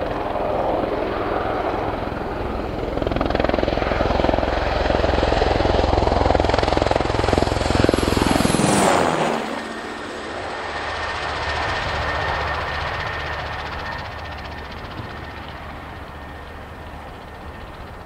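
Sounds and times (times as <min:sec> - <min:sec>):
helicopter rotor beat: 0:00.0 - 0:18.0
helicopter turbine whine: 0:00.0 - 0:18.0.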